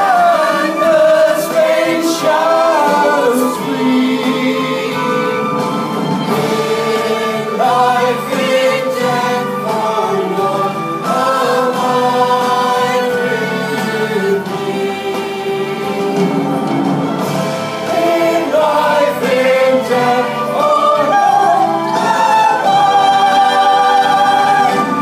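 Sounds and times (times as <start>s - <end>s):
choir singing in harmony: 0.0s - 25.0s.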